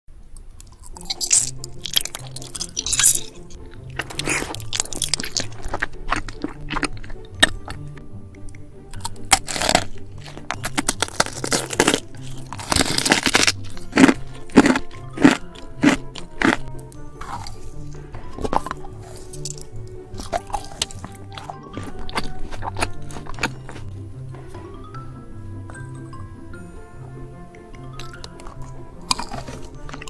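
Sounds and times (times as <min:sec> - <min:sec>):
soft background music: 0:00.2 - 0:30.0
crunching and chewing food: 0:00.3 - 0:30.0.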